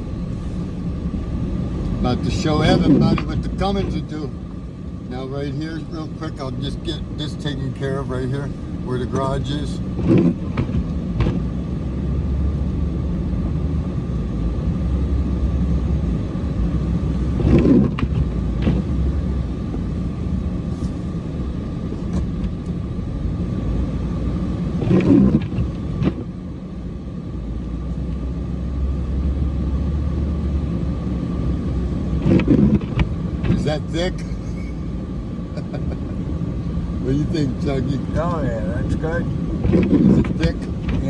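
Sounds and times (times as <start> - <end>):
diesel truck engine under load: 0.0 - 41.0.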